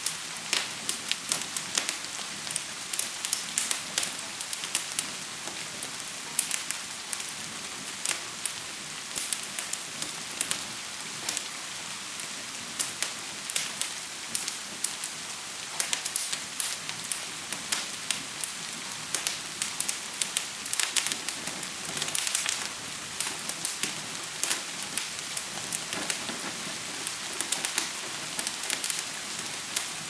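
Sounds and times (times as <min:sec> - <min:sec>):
fire crackling and popping: 0:00.0 - 0:30.0
gentle rain: 0:00.0 - 0:30.0.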